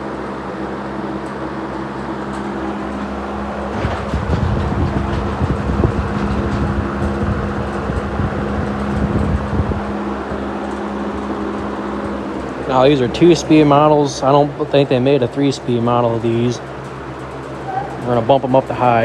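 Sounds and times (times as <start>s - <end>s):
box fans humming with rushing air: 0.0s - 19.0s.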